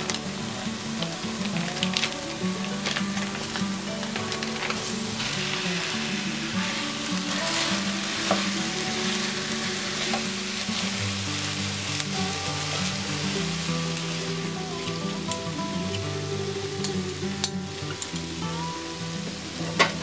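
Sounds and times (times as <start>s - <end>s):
food sizzling in frying pan: 0.0s - 20.0s.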